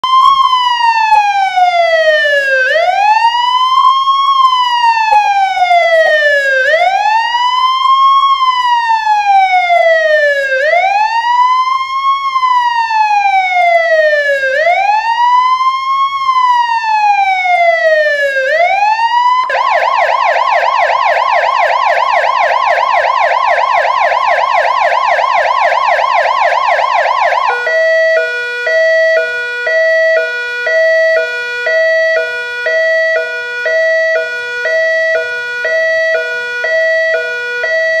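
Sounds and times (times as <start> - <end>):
ambulance siren: 0.0 - 38.0.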